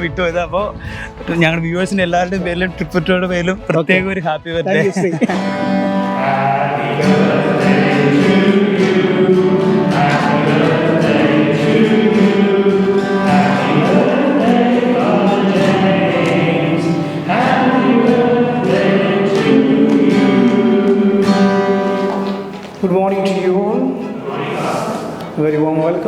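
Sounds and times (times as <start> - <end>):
choir singing: 4.9 - 26.0.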